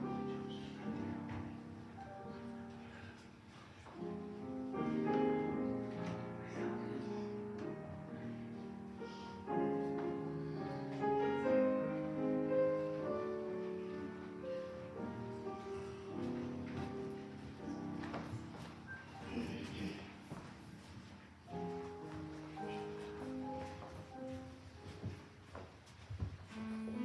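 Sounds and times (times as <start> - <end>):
piano music with held chords: 0.0 - 27.0.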